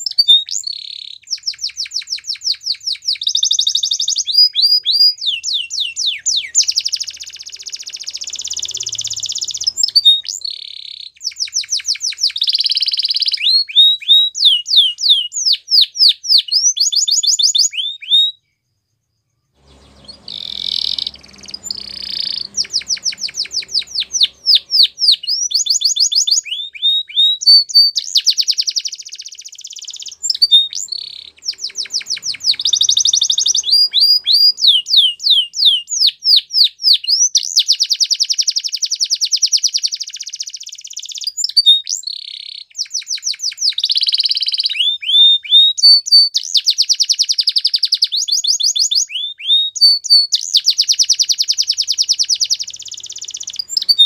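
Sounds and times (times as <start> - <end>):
canary singing: 0.0 - 18.6, 19.5 - 54.0.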